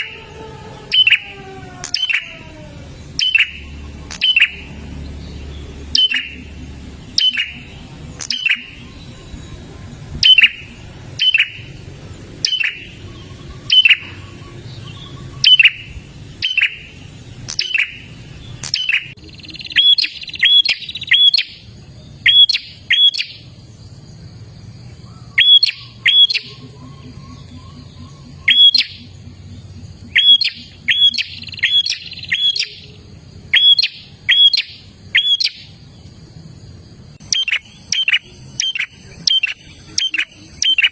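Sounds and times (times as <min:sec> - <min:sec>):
bird giving sharp calls: 0:00.0 - 0:09.4, 0:10.2 - 0:23.4, 0:25.2 - 0:32.9, 0:33.5 - 0:35.8, 0:37.2 - 0:40.9
faint low hum: 0:00.0 - 0:40.9.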